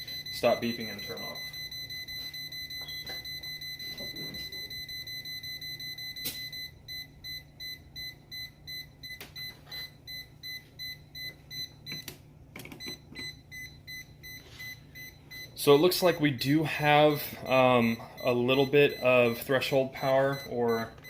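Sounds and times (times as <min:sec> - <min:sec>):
voltage tester beeping: 0:00.0 - 0:12.1, 0:12.7 - 0:21.0.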